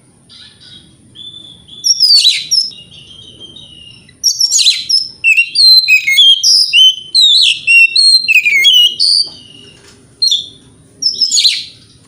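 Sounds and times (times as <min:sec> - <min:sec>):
bird singing whistled notes: 0:00.3 - 0:11.9.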